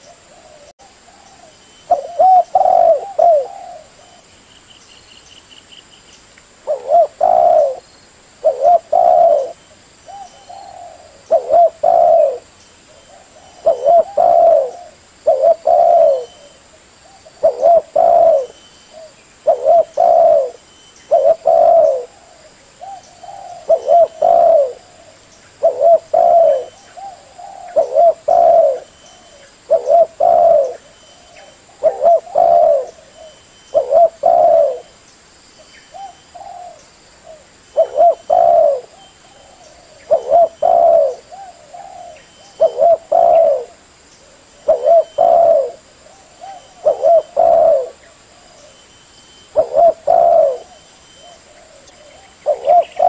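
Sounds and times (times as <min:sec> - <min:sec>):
dove cooing: 0:00.0 - 0:04.3, 0:06.6 - 0:35.0, 0:35.9 - 0:48.8, 0:49.5 - 0:53.0.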